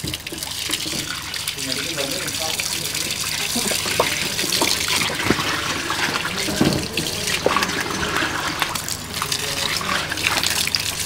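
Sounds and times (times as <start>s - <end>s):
hose water splashing into basin: 0.0s - 11.0s.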